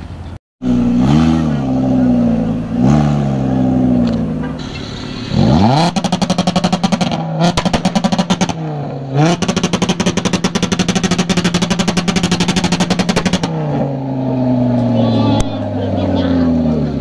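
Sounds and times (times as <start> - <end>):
car engine revving: 0.6 - 17.0
exhaust popping and crackling: 0.6 - 17.0.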